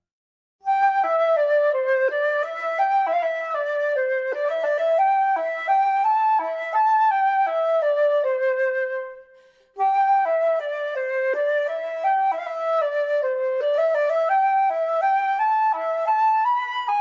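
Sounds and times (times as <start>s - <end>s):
flute melody: 0.6s - 17.0s.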